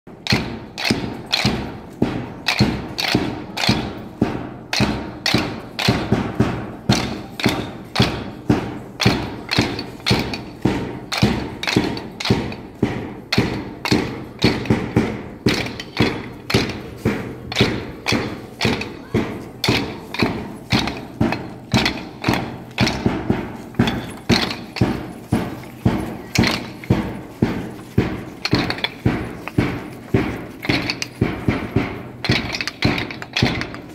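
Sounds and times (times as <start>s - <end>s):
wooden dumbbells clacking: 0.2s - 4.0s, 4.7s - 33.9s.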